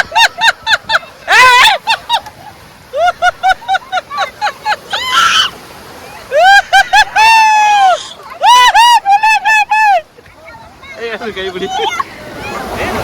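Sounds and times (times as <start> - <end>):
child shrieking and laughing: 0.0 - 11.0, 11.6 - 12.7.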